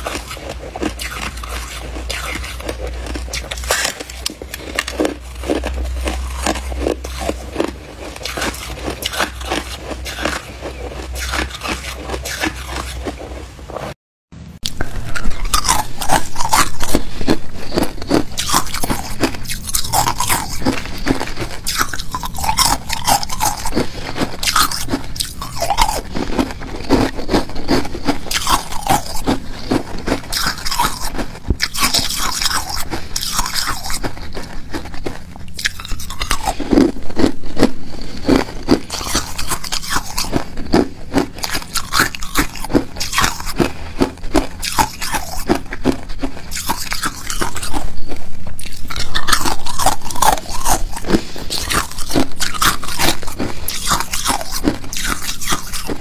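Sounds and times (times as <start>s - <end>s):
ice cubes crunching between teeth: 0.0s - 13.4s, 14.6s - 56.0s.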